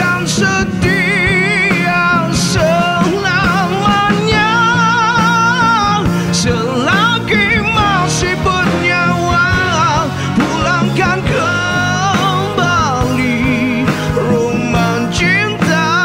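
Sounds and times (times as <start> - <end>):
live rock band: 0.0 - 16.0
man singing with vibrato: 0.0 - 16.0.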